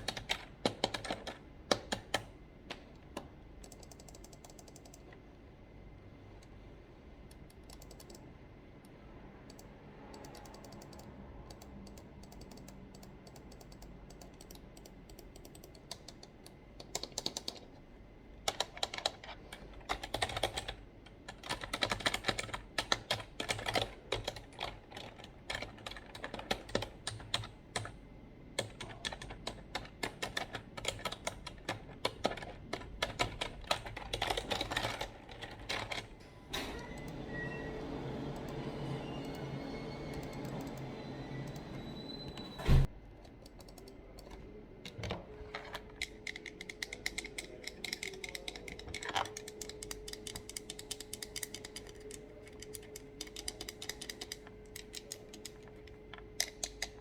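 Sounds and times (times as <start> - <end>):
typing on computer keyboard: 0.0 - 5.2, 7.3 - 8.3, 9.5 - 17.8, 18.4 - 36.2, 43.2 - 57.0.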